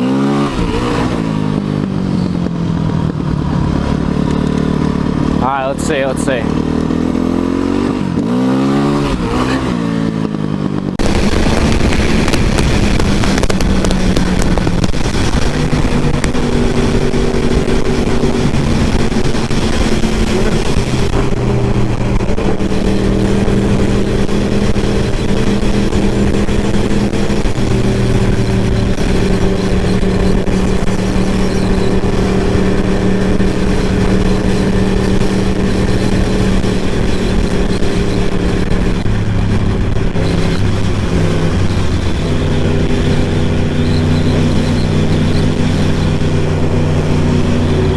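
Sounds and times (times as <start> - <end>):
motor vehicle driving drone: 0.0 - 47.9
motorcycle engine revving: 0.0 - 47.9
wind and road noise: 0.0 - 47.9.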